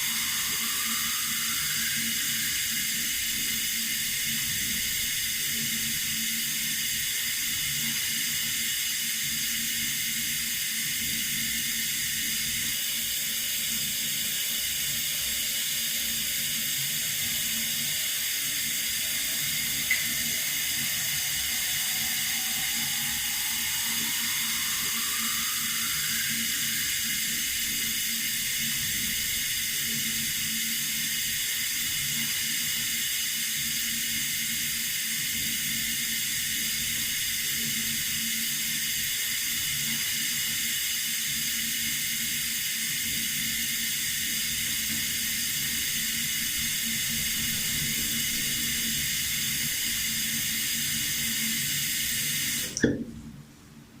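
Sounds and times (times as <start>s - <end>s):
water running from a tap: 0.0s - 52.9s.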